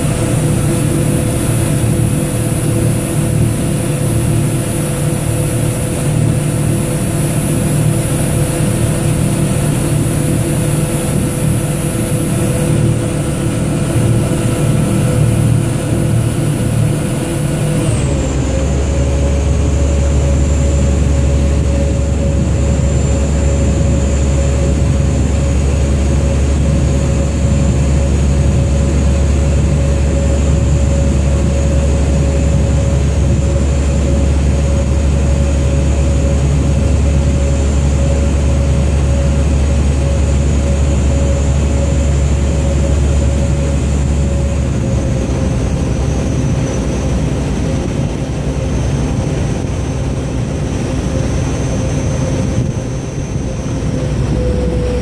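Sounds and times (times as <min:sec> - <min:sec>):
boat diesel engine running: 0:00.0 - 0:55.0.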